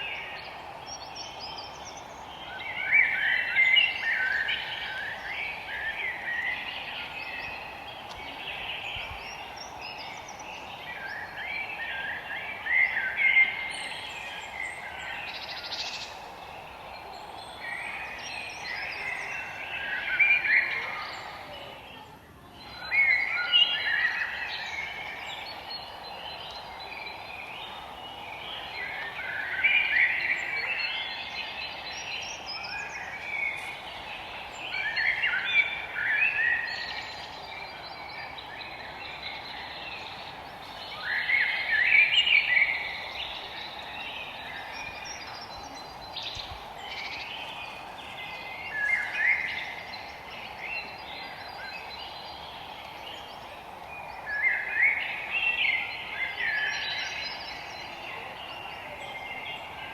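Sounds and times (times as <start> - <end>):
forest birds chirping and calling: 0.0 - 59.9
steady background hiss: 0.0 - 59.9.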